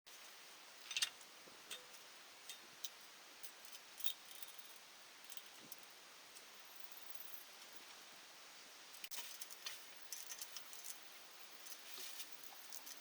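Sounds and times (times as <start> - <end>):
faint steady hiss: 0.1 - 13.0.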